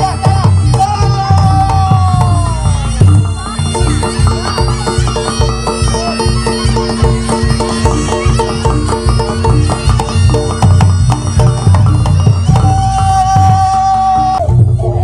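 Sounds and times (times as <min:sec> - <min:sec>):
heavy low drum beats: 0:00.0 - 0:15.0
reedy shawm tone: 0:00.0 - 0:15.0.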